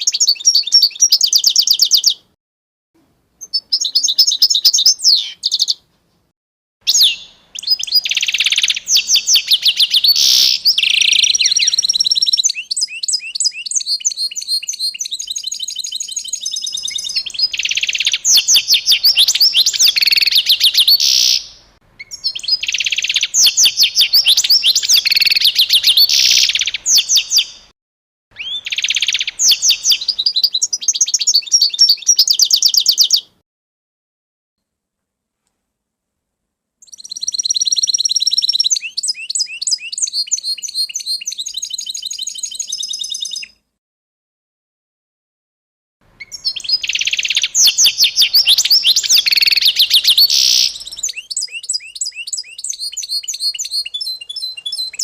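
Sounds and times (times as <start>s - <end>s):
songbird singing: 0.0s - 2.4s, 3.0s - 6.2s, 6.9s - 27.7s, 28.3s - 33.4s, 36.8s - 43.6s, 46.0s - 55.0s.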